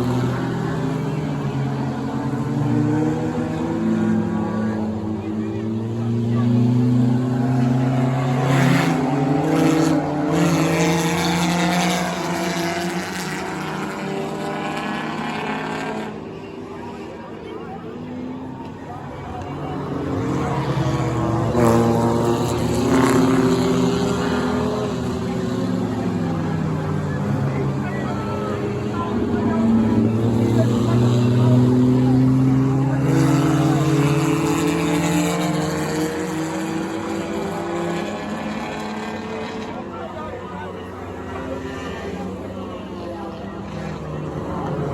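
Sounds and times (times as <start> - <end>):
racing car engines passing: 0.0 - 44.9.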